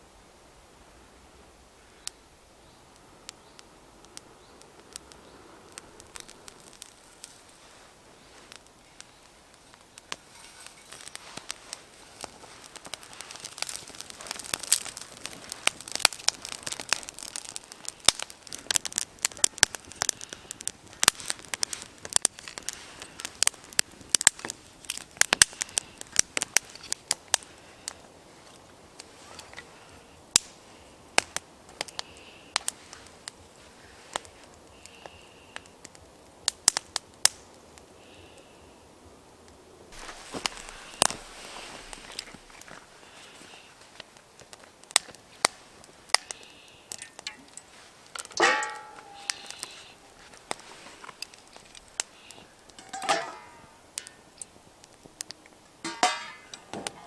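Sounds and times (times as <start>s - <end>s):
wood fire crackling and popping: 1.6s - 57.0s.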